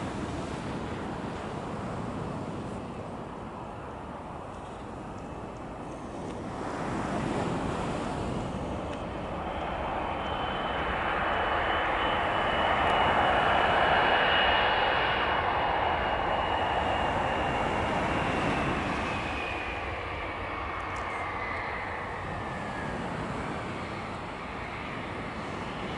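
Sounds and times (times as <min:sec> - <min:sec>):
high steady engine whine: 0:00.0 - 0:25.9
jet engines rushing: 0:00.0 - 0:25.9.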